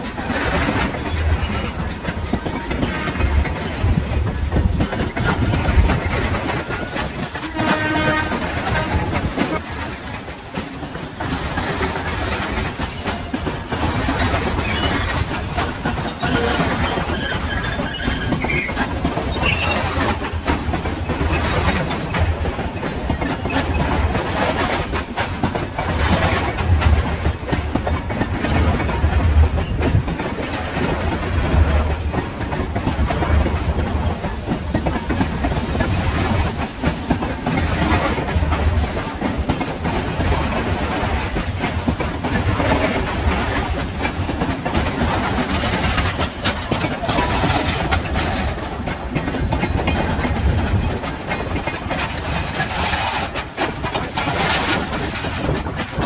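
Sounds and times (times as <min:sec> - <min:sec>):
train wheels rumbling on rail: 0:00.0 - 0:56.0
wheels clacking over rail joints: 0:00.0 - 0:56.0.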